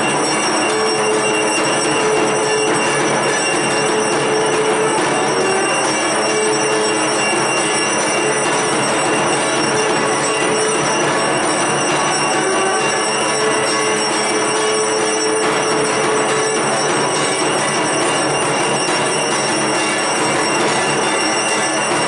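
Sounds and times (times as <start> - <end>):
bells and gongs clanging: 0.0 - 22.0.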